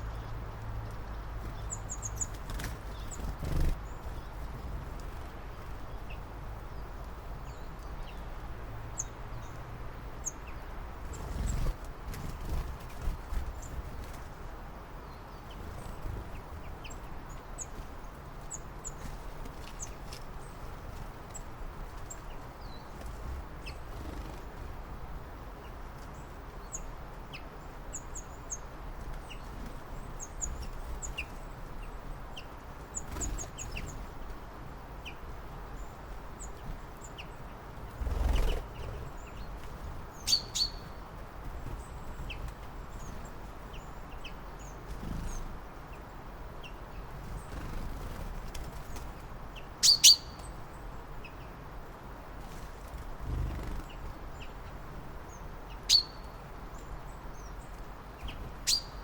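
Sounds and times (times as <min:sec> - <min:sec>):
low background noise: 0:00.0 - 0:59.0
small songbirds chirping: 0:00.0 - 0:59.0.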